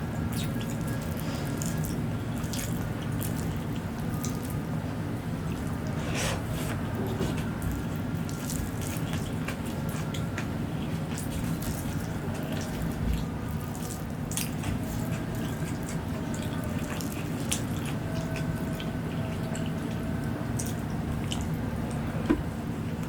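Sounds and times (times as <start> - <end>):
low background hum: 0.0 - 23.0
mouth chewing with wet smacks: 0.2 - 4.7, 6.6 - 22.1.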